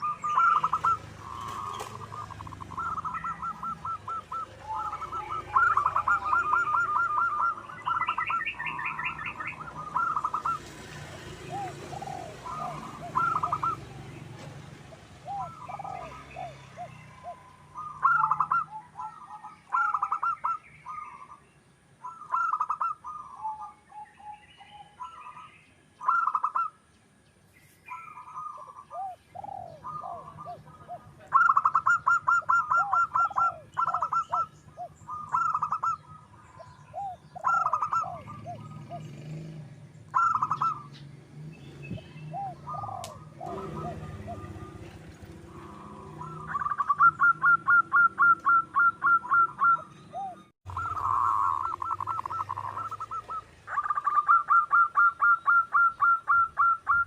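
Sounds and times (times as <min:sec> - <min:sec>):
dove cooing: 0:00.0 - 0:21.4, 0:22.0 - 0:26.8, 0:27.9 - 0:41.0, 0:41.8 - 0:57.0.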